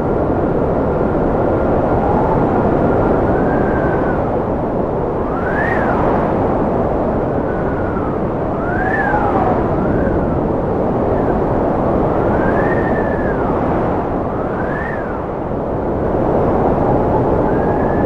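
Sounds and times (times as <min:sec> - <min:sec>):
wind howling and whistling: 0:00.0 - 0:18.0.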